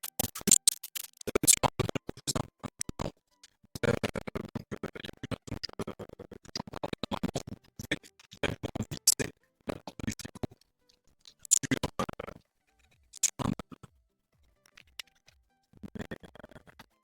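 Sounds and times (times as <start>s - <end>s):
scratching and scraping: 0.0s - 17.0s.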